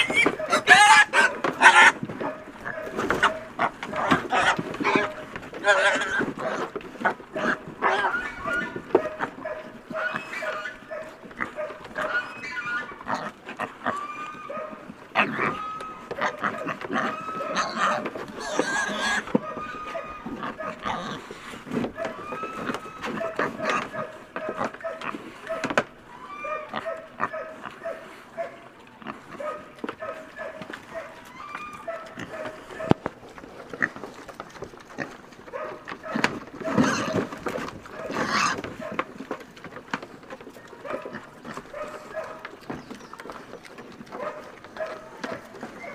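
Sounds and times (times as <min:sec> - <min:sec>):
pigs grunting and squealing: 0:00.0 - 0:45.9.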